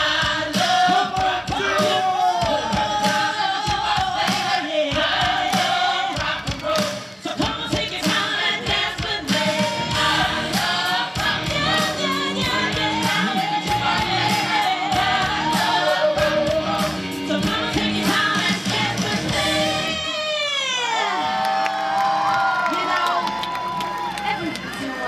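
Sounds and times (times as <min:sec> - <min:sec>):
show music with singing: 0:00.0 - 0:20.8.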